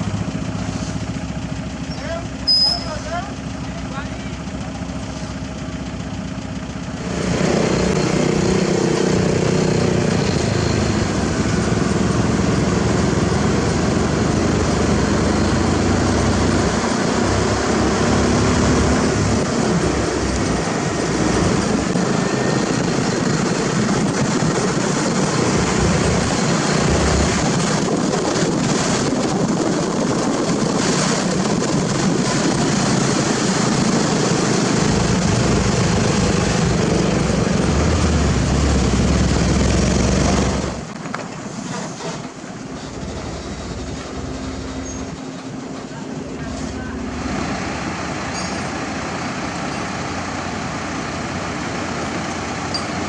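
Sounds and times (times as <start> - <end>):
road construction machinery running: 0.0 - 53.0.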